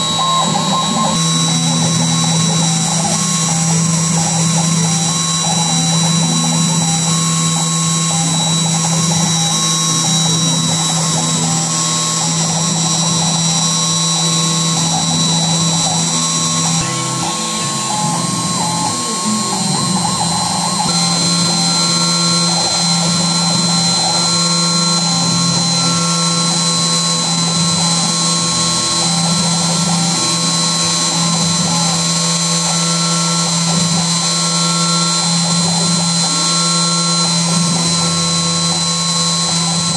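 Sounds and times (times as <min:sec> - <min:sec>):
cnc machine drone and whine: 0:00.0 - 0:39.9.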